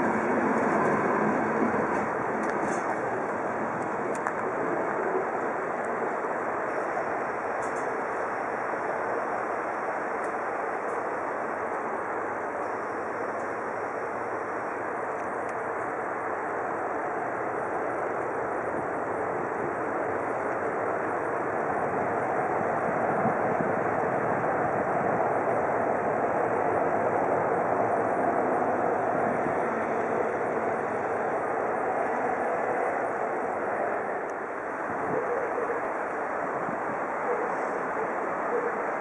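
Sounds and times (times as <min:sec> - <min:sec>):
train running: 0:00.0 - 0:39.0.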